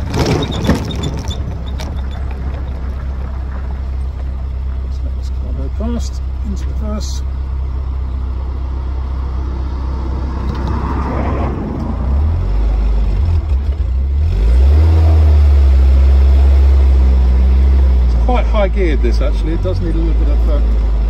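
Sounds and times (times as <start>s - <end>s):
jeep engine revving: 0.0s - 21.0s.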